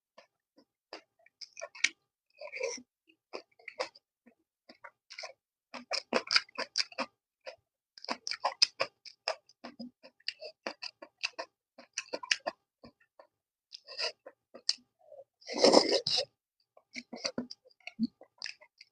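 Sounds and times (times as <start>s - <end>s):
crunchy food chewing: 0.2s - 4.0s, 4.7s - 18.9s.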